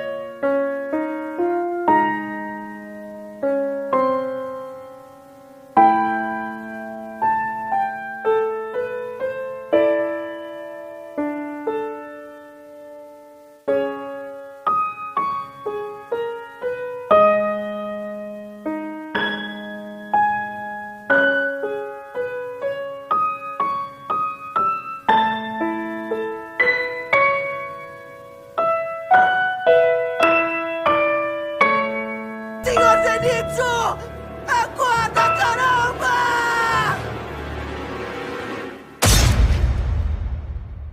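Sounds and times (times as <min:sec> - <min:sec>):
solo piano music: 0:00.0 - 0:38.1.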